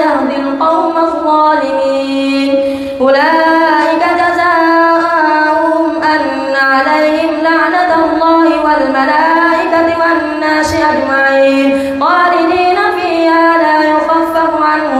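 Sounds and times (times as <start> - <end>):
boy chanting recitation: 0.0 - 14.9.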